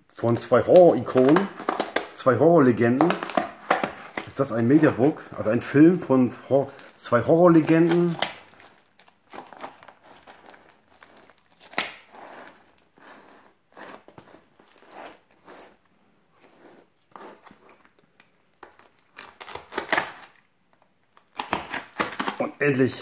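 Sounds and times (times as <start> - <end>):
plastic wrapping crinkling: 0.2 - 15.8, 17.2 - 20.5.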